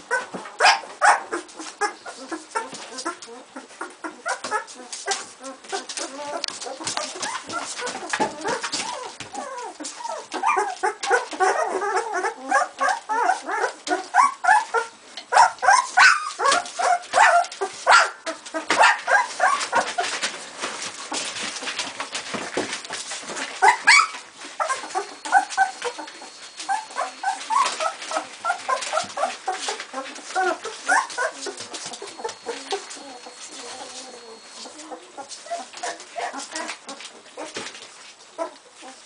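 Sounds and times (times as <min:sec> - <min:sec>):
puppies squealing and whimpering: 0:00.0 - 0:20.3, 0:23.2 - 0:37.7
clicks and rustles: 0:01.3 - 0:11.5, 0:15.1 - 0:39.0.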